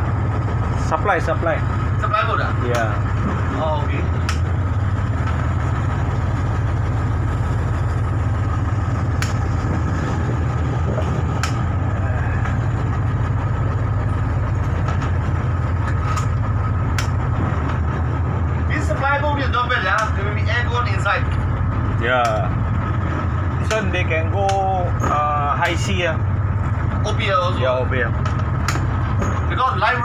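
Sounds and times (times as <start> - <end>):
boat engine droning: 0.0 - 30.0
water and hull noise: 0.0 - 30.0.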